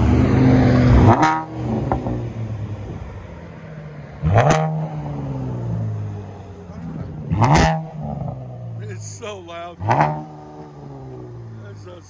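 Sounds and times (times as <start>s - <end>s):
loud car engine revving: 0.0s - 12.0s.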